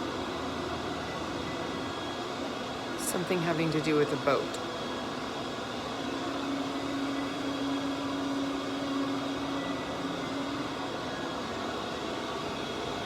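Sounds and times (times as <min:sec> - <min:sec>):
vacuum cleaner motor hum: 0:00.0 - 0:13.0.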